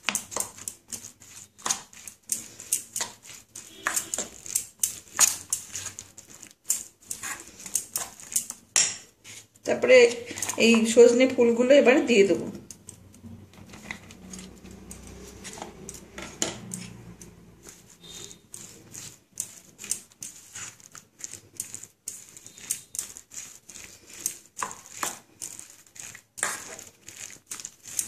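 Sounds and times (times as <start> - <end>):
fingers scraping batter in metal bowl: 0.0 - 28.0.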